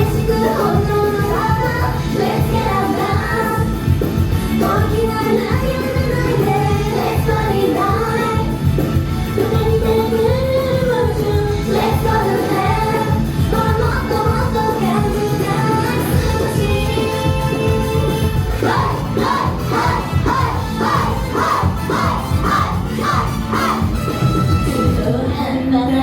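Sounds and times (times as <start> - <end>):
women singing together: 0.0 - 3.8, 4.6 - 8.7, 9.4 - 24.0
pop backing track: 0.0 - 26.0.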